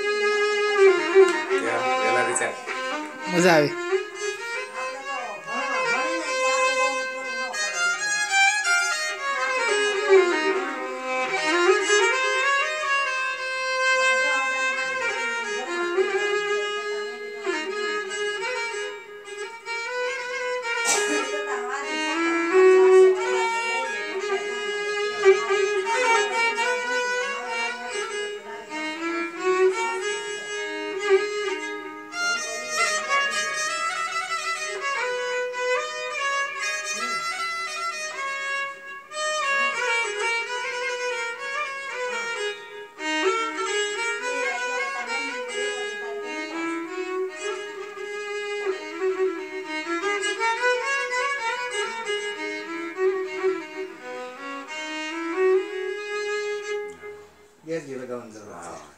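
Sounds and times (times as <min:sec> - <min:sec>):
solo violin melody: 0:00.0 - 0:58.9.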